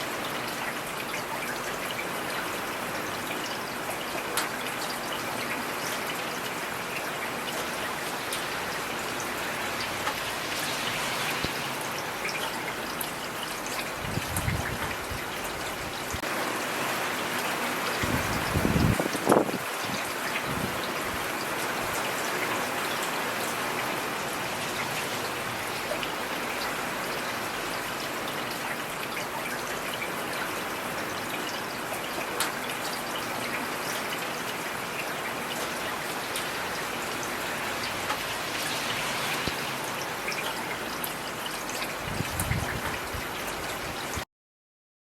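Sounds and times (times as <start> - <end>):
rain falling on street: 0.0 - 44.2.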